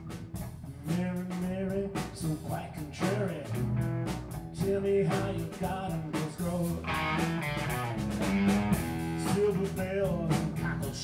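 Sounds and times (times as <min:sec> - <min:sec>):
drum kit: 0:00.0 - 0:11.0
electric guitar: 0:00.0 - 0:11.0.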